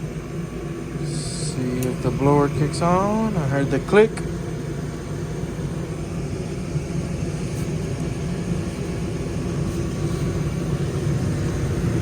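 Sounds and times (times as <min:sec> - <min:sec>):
gas furnace humming: 0:00.0 - 0:12.0.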